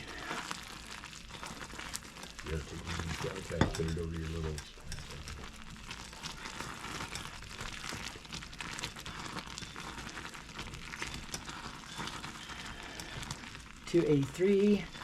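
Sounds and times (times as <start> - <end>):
crackling sizzle of bubbles: 0.0 - 15.0
toffee boiling in a pan: 0.0 - 15.0.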